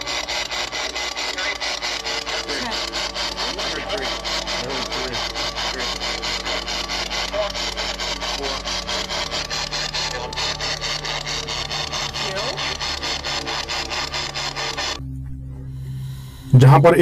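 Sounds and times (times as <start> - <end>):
raspy radio static bursts: 0.0 - 15.0.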